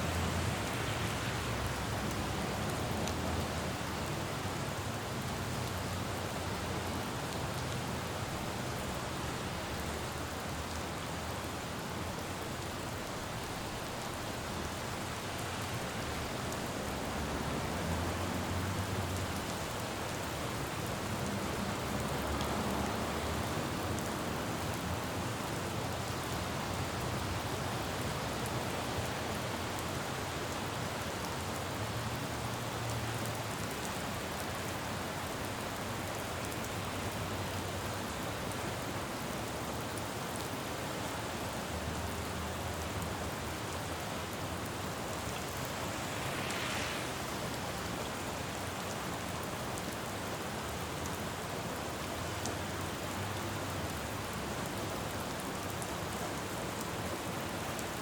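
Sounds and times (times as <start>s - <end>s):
low rumble of passing traffic: 0.0s - 11.1s, 11.7s - 58.0s
rain falling on road: 0.0s - 58.0s.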